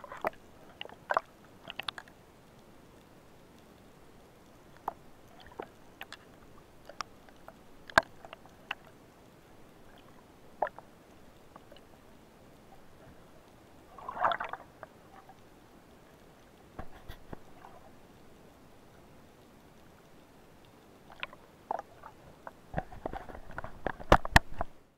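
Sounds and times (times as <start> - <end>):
underwater clicks and ticks: 0.0 - 24.8.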